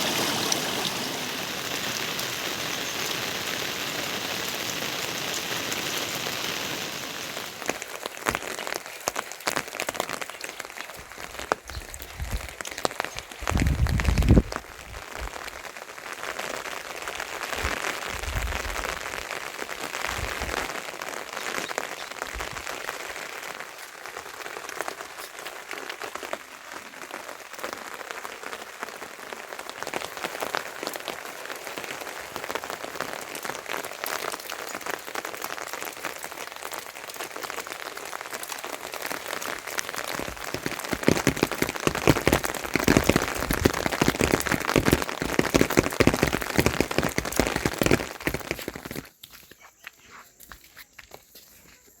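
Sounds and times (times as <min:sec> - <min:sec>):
rain falling: 0:00.0 - 0:49.5.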